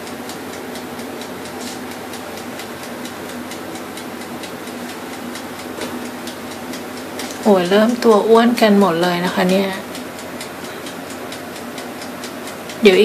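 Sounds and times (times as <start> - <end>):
electric oven humming: 0.0 - 13.0
fast regular ticking: 0.0 - 13.0.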